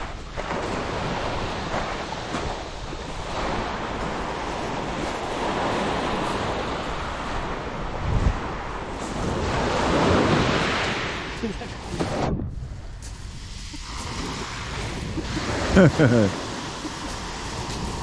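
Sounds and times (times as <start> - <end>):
waves washing on shingle: 0.0 - 18.0
wind buffeting microphone: 0.0 - 18.0.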